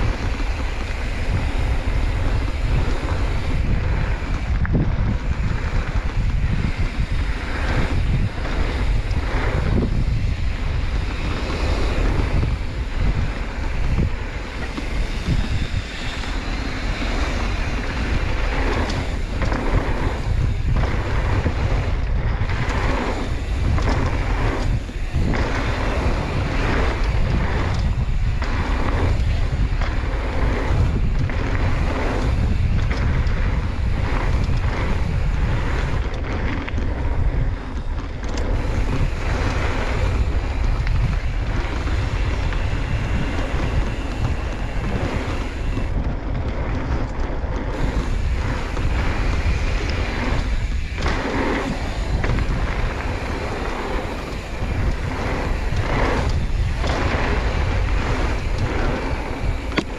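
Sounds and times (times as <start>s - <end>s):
tyres hissing over gravel: 0.0s - 59.9s
wind rumbling on microphone: 0.0s - 59.9s.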